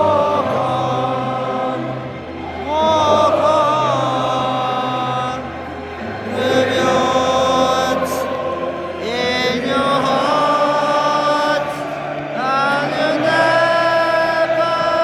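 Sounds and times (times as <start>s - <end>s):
choir chanting: 0.0s - 15.0s
music: 0.0s - 15.0s.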